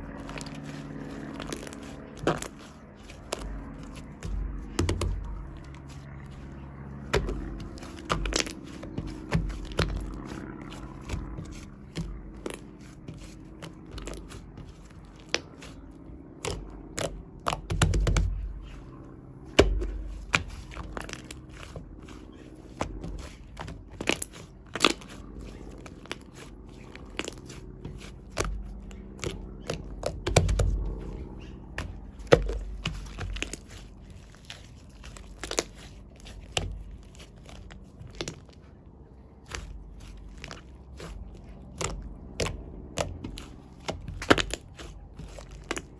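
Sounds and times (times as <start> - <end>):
shaving foam crackling and squishing: 0.0 - 45.9.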